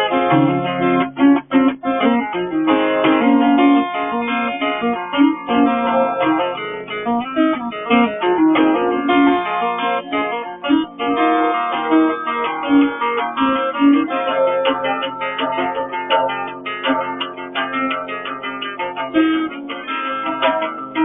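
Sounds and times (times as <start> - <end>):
acoustic guitar folk tune: 0.0 - 21.0.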